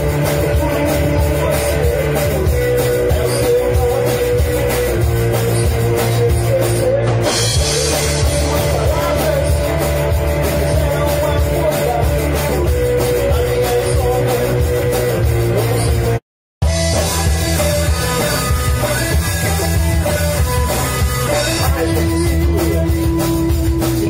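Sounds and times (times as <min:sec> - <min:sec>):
bass guitar: 0:00.0 - 0:24.0
drum kit: 0:00.0 - 0:24.0
electric guitar: 0:00.0 - 0:24.0.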